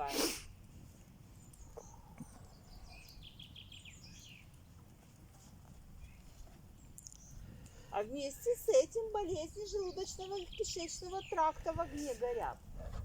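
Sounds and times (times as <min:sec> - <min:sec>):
low outdoor background hum: 0:00.0 - 0:13.0
faint bird chirping: 0:01.2 - 0:05.1, 0:05.9 - 0:12.5.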